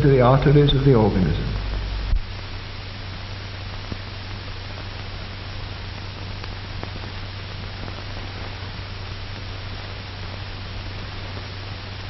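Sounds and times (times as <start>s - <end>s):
film soundtrack hiss: 0.0s - 12.0s
low hum: 0.0s - 12.0s.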